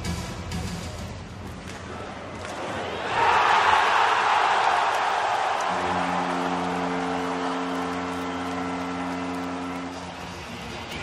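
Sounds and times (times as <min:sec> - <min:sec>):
arena crowd noise: 0:01.6 - 0:11.0.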